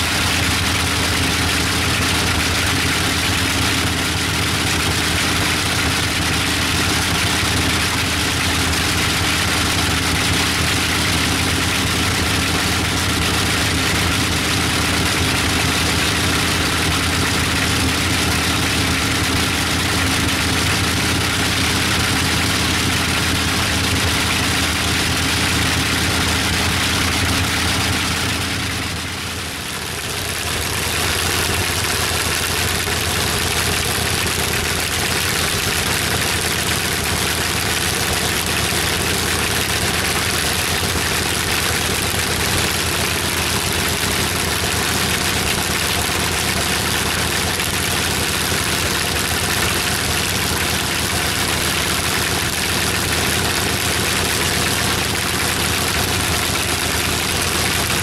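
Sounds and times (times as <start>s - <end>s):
radial aircraft engine running: 0.0s - 58.0s.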